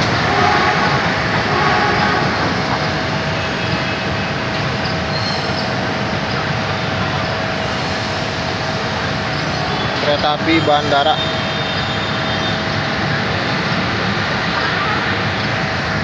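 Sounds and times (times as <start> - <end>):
train rolling on rails: 0.0 - 16.0.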